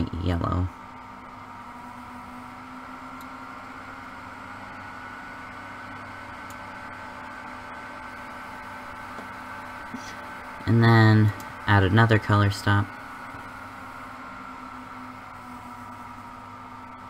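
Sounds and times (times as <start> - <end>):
computer fans humming: 0.0 - 17.0.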